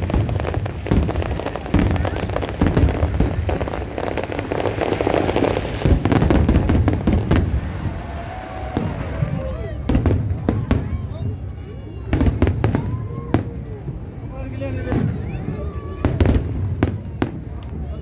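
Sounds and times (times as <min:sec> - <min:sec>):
firework bangs and crackles: 0:00.0 - 0:18.0.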